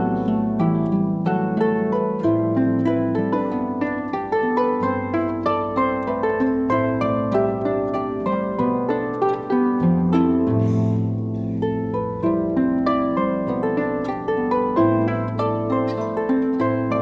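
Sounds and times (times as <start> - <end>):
harps playing: 0.0 - 17.0.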